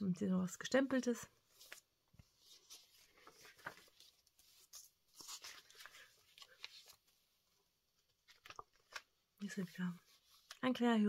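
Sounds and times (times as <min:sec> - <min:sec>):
paper pages rustling and turning: 0:01.4 - 0:10.8.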